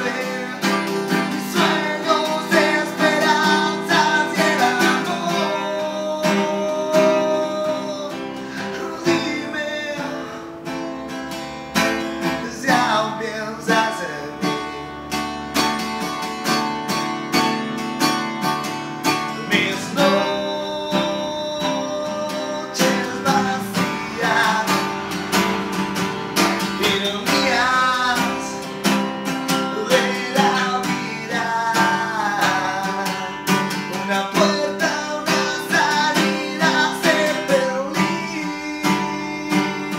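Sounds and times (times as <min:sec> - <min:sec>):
man singing: 0:00.0 - 0:15.2, 0:19.0 - 0:39.9
acoustic guitar strumming: 0:00.0 - 0:39.9.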